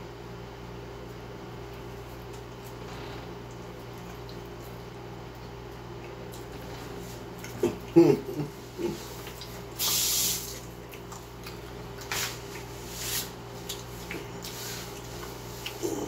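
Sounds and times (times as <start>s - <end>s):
low room hum: 0.0s - 16.0s
soft wet chewing: 1.0s - 9.8s, 10.5s - 16.0s.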